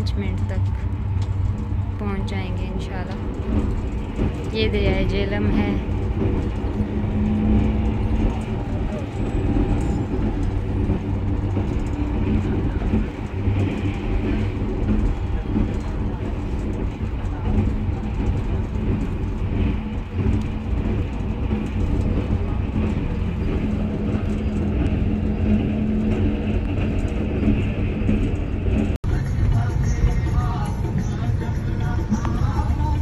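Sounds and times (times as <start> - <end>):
train rumbling over bridge: 0.0 - 33.0.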